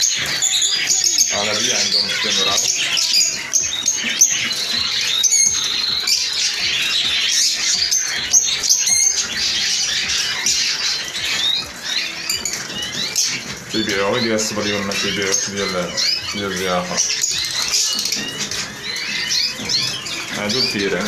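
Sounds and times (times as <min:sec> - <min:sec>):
canaries chirping and singing: 0:00.0 - 0:21.0.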